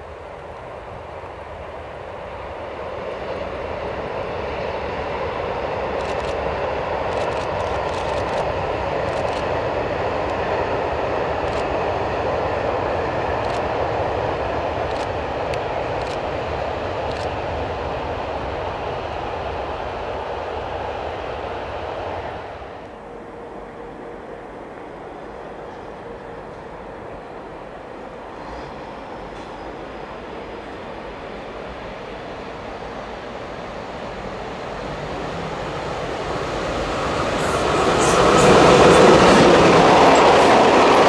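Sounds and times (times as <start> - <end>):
distant train wheels rumbling on rail: 0.0 - 41.0.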